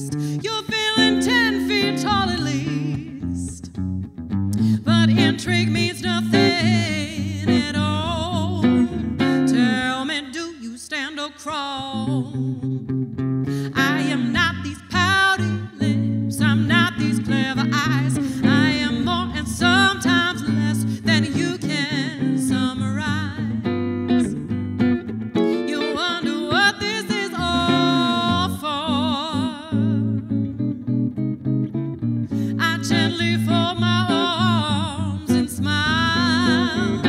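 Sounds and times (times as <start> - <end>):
woman singing: 0.0 - 3.8, 4.6 - 12.9, 13.5 - 24.8, 25.4 - 30.6, 32.3 - 37.0
guitar accompaniment: 0.0 - 37.0.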